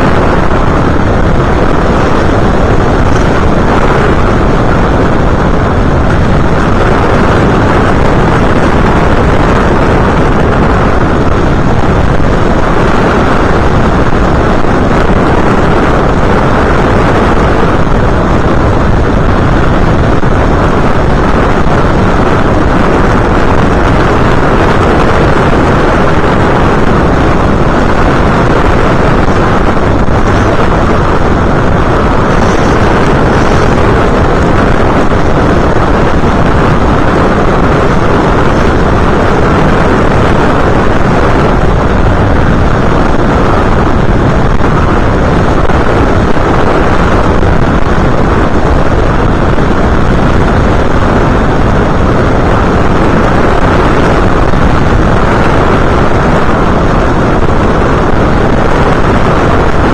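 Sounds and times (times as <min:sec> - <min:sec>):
drone motor and propeller noise: 0:00.0 - 0:59.9
wind buffeting microphone: 0:00.0 - 0:59.9.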